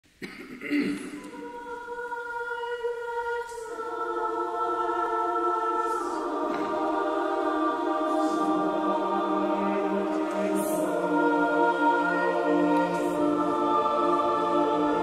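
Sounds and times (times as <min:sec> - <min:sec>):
choir singing held chords: 0:01.0 - 0:15.0.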